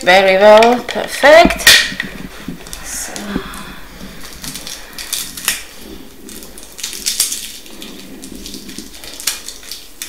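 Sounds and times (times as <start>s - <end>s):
plastic crinkling: 0.4s - 10.0s.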